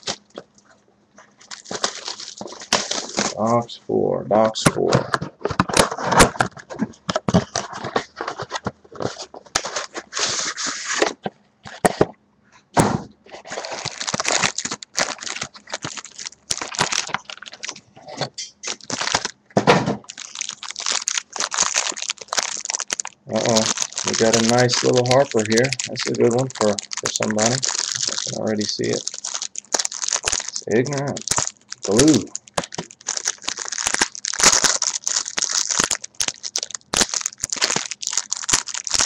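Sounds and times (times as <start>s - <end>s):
wrappers crinkling and snapping: 0.0s - 0.6s, 1.2s - 3.6s, 5.4s - 11.2s, 13.4s - 19.4s, 20.0s - 39.0s.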